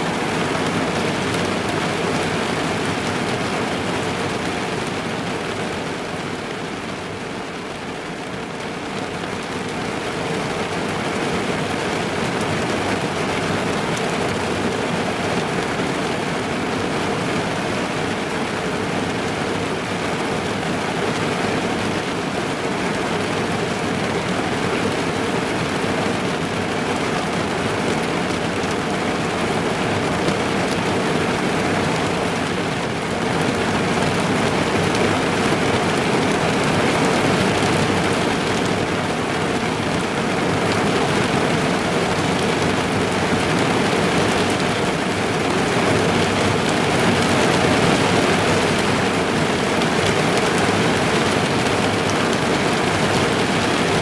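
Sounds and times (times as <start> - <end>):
heavy rain on a car roof: 0.0 - 54.0.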